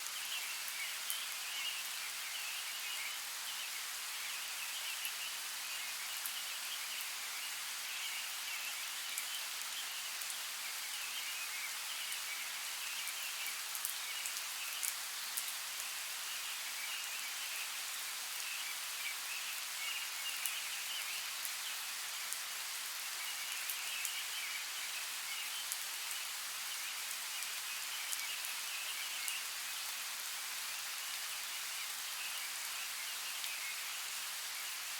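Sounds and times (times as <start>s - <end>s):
rain hiss: 0.0s - 34.9s.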